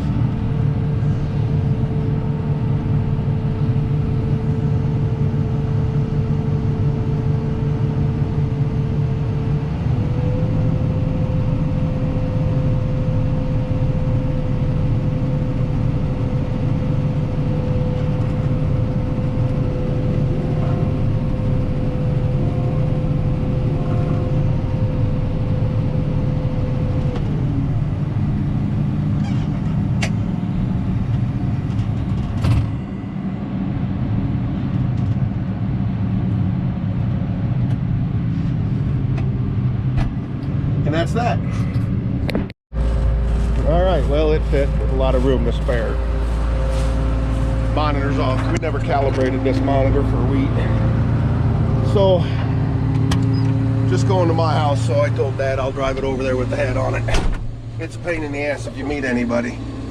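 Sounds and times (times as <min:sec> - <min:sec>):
combine harvester drone: 0:00.0 - 0:59.9
constant machine whine: 0:00.0 - 0:59.9.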